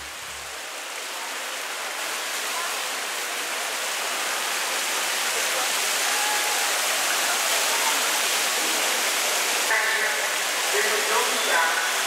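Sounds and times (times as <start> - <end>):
fountain water splashing into pool: 0.0 - 12.0.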